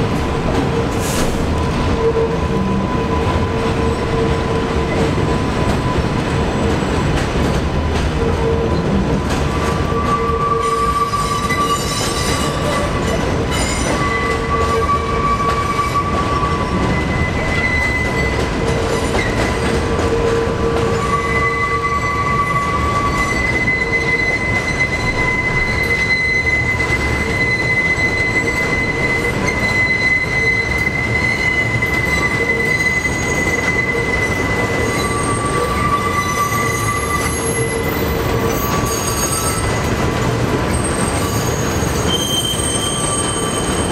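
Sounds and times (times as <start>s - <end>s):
train cars rumbling: 0.0s - 43.9s
train wheels squealing: 8.2s - 43.9s.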